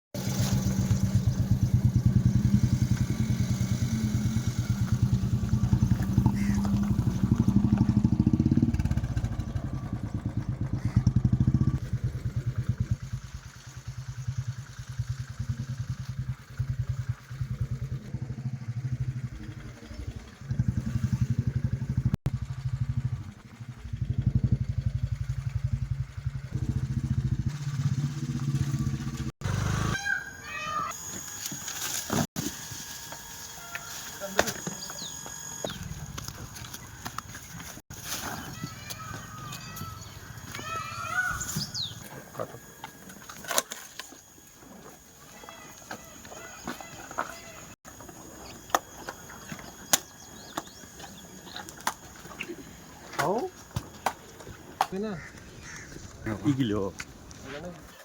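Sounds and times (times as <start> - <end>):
small engine running: 0.2 - 57.7.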